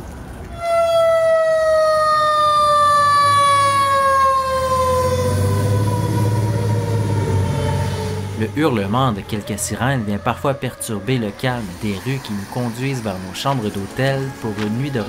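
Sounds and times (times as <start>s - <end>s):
truck engine rumble: 0.0s - 15.0s
fire engine siren wailing: 0.5s - 15.0s.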